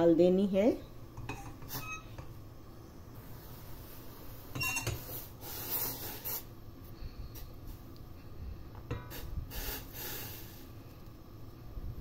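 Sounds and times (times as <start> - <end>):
low steady hum: 0.0 - 12.0
tea boiling with bubbling hiss: 0.8 - 12.0.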